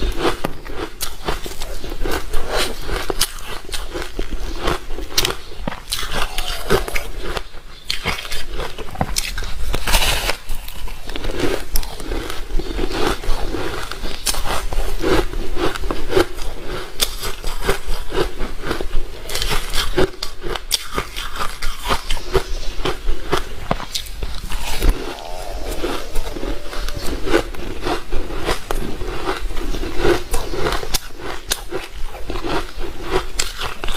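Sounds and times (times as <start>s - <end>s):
person chewing ice: 0.0s - 33.9s.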